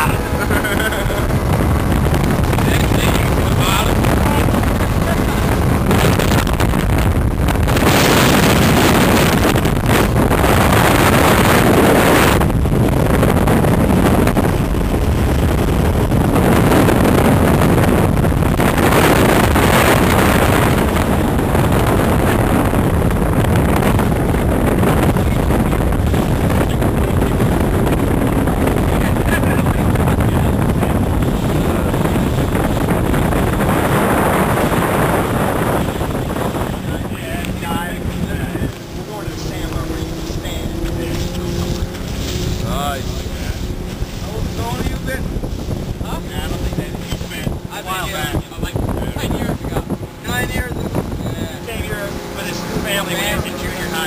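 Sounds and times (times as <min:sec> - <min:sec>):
motorboat engine: 0:00.0 - 0:54.0
water rushing against hull: 0:00.0 - 0:54.0
wind buffeting microphone: 0:00.0 - 0:54.0.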